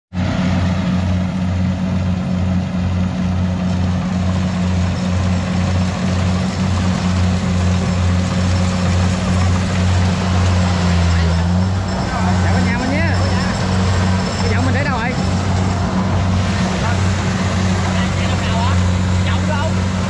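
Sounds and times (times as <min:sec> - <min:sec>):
harvester engine droning: 0:00.1 - 0:20.0.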